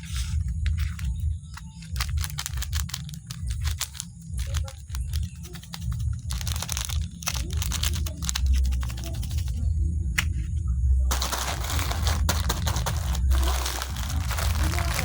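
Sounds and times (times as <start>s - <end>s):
packaging rustling: 0.0s - 9.4s, 11.1s - 15.0s
biscuits crackling: 0.0s - 9.6s, 11.1s - 15.0s.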